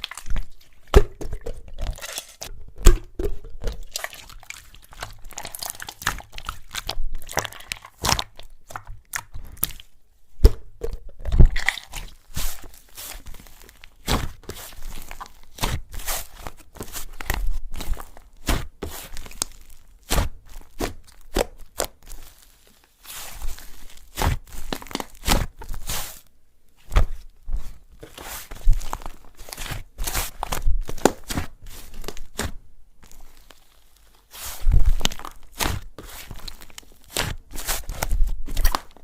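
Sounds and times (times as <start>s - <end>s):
slime squished by hand: 2.8s - 26.2s, 26.9s - 39.0s.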